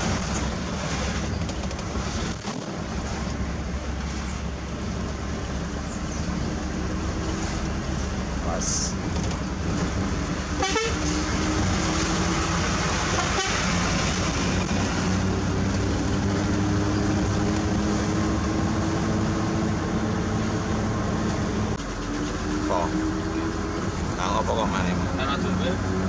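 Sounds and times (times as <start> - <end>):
road and tyre noise: 0.0 - 26.0.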